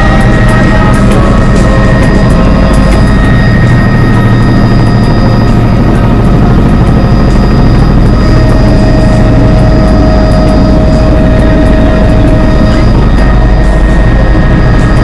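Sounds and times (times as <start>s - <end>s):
helicopter rotor rumble: 0.0s - 15.0s
high engine whine: 0.0s - 15.0s.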